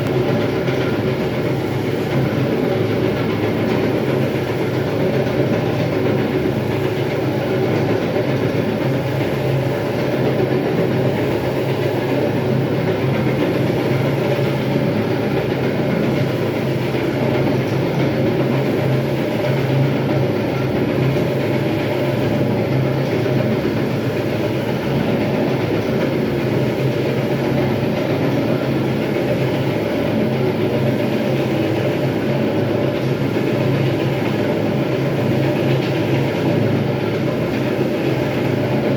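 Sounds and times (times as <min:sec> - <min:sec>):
floor grinding machine: 0:00.0 - 0:38.9.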